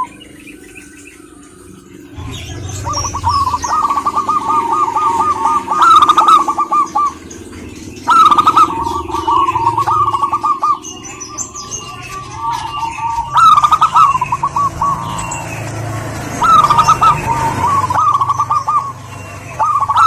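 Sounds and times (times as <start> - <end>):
dove cooing in trilled phrases: 2.0 - 20.0.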